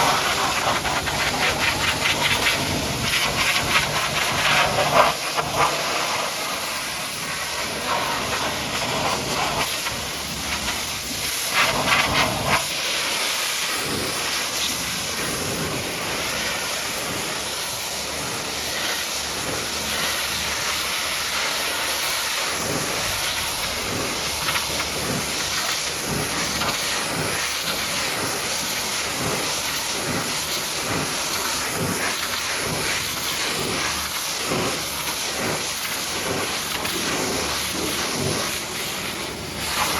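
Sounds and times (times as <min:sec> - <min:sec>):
pressure washer spraying: 0:00.0 - 0:39.9.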